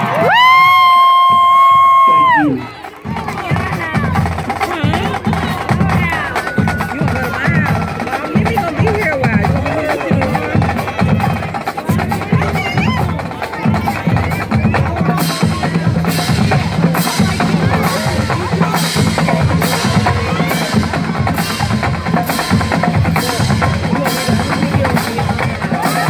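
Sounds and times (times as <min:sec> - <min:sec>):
drumline playing bass and snare: 0:00.0 - 0:26.0.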